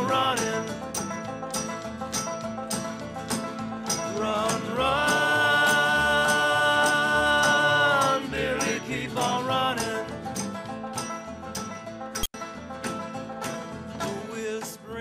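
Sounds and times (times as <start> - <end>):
acoustic string band music: 0.0 - 15.0.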